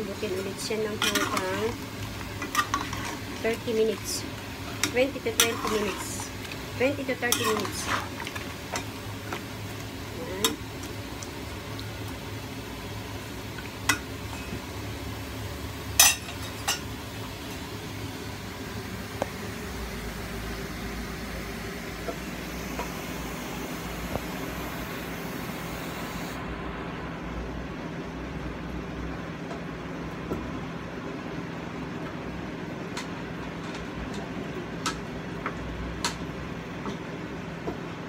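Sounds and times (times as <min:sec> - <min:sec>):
low rumble and hum: 0:00.0 - 0:38.0.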